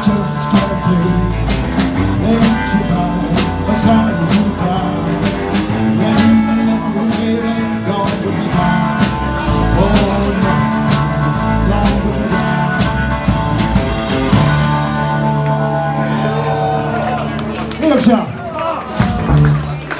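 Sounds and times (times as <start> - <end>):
man singing: 0.0 - 16.7
drum kit: 0.0 - 17.3, 18.9 - 19.9
electric bass: 0.0 - 19.9
electric guitar: 0.0 - 19.9.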